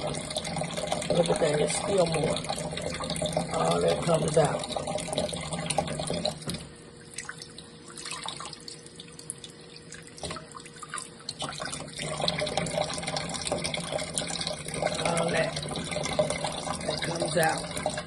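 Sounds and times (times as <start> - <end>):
faucet running into sink: 0.0 - 18.0
water splashes and drips: 0.0 - 18.0.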